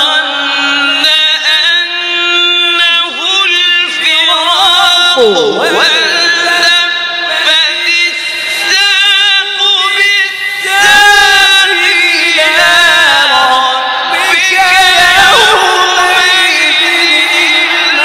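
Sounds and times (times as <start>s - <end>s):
man reciting melodically into microphone: 0.0s - 18.0s.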